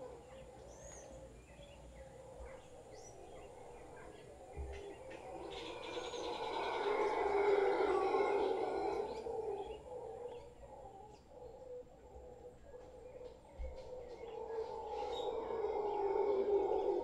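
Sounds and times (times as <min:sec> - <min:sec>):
howler monkey howling: 0:00.0 - 0:17.0
small birds chirping: 0:00.0 - 0:17.0.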